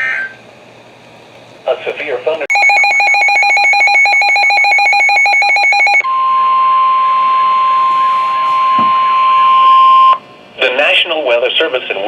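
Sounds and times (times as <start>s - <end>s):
steady weather radio warning tone: 1.7s - 12.0s.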